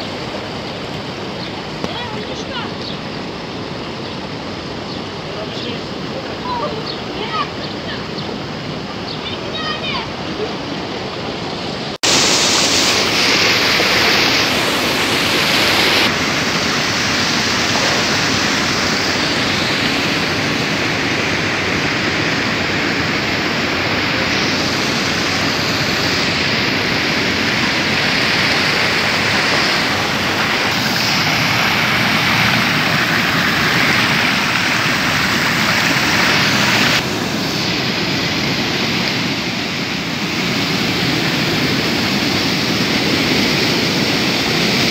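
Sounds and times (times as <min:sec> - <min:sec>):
stream flowing over rocks: 0:00.0 - 0:44.9
water rushing into ponds: 0:00.0 - 0:44.9.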